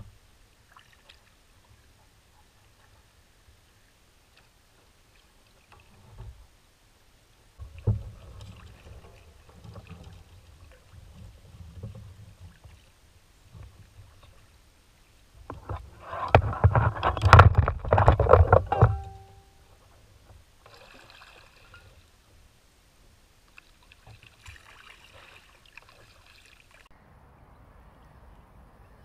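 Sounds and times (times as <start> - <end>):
paddle splashing water: 0.6 - 6.6, 7.5 - 22.5, 23.4 - 26.9.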